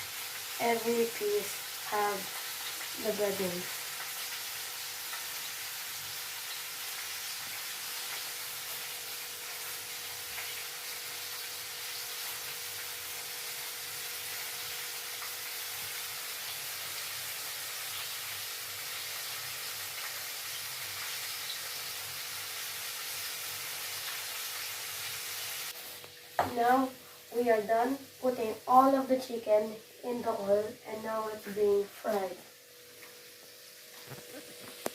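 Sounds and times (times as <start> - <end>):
chicken deep-frying sizzle: 0.0 - 34.9.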